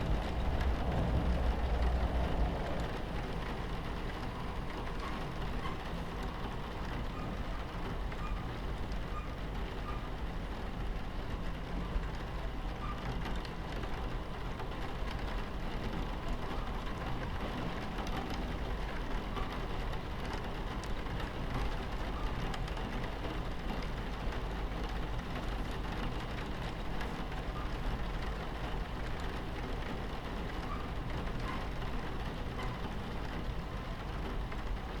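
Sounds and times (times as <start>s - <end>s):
rain on a window: 0.0s - 35.0s
train rumbling: 0.0s - 35.0s.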